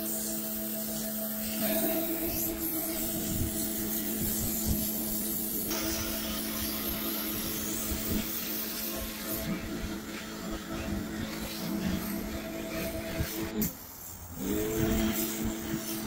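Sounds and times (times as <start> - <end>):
motor hum: 0.0 - 16.0
pressure washer spraying paving: 0.0 - 16.0.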